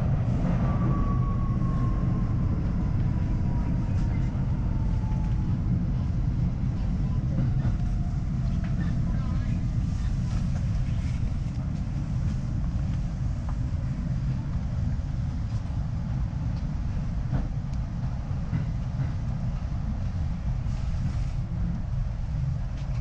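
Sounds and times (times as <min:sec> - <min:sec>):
subway car rumbling: 0:00.0 - 0:23.0.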